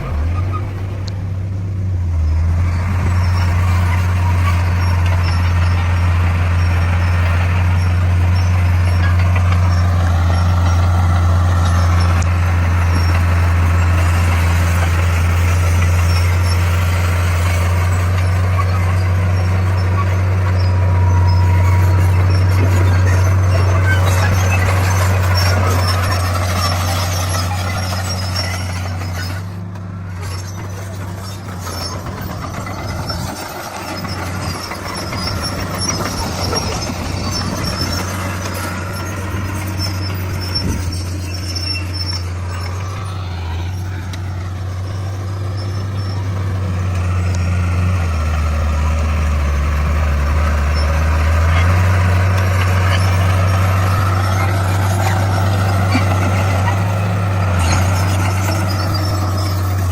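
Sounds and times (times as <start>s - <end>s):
bulldozer diesel engine: 0.0s - 59.9s
machine squeaks and rattles: 2.1s - 59.9s.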